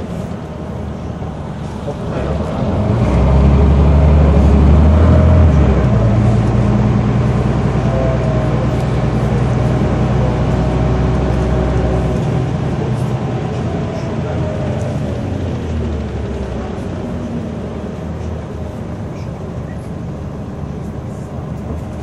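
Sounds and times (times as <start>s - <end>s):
bus diesel engine: 0.0s - 22.0s.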